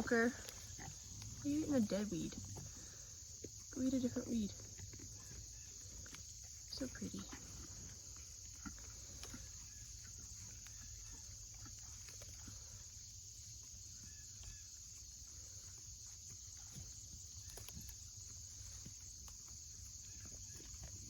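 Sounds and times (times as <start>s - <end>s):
goat nibbling weeds: 0.0s - 13.8s, 14.5s - 21.0s.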